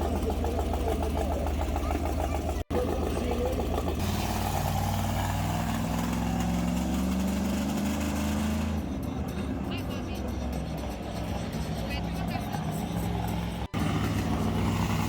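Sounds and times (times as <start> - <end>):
large vehicle engine revving: 0.0 - 15.0.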